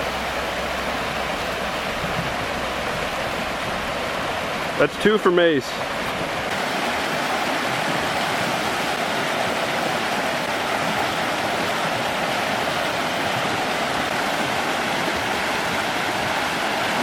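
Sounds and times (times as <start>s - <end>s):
rush of flowing water: 0.0s - 17.0s.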